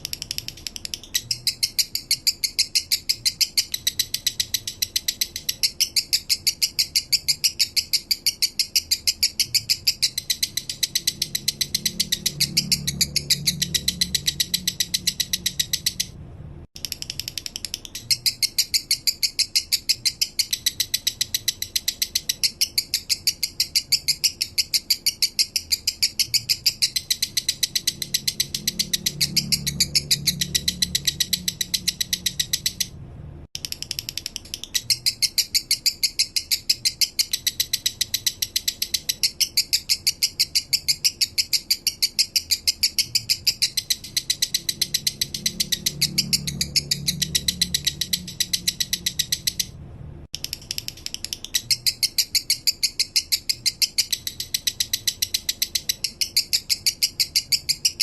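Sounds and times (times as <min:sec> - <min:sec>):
lovebird singing sharp ticking notes: 0:00.0 - 0:16.2, 0:16.8 - 0:32.9, 0:33.6 - 0:49.7.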